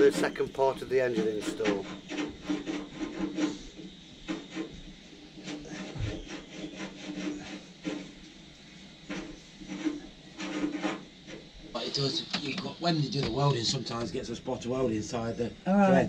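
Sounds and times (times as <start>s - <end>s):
metal scraping and rubbing: 0.0s - 15.2s.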